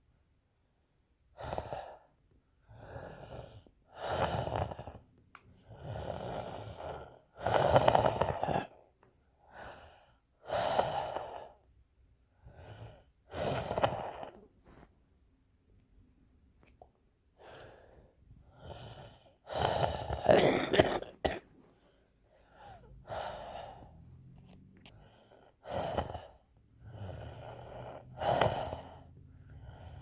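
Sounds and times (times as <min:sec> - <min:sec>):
person breathing hard and wheezily: 0:01.3 - 0:08.8, 0:09.4 - 0:11.7, 0:12.3 - 0:14.9, 0:17.4 - 0:30.0.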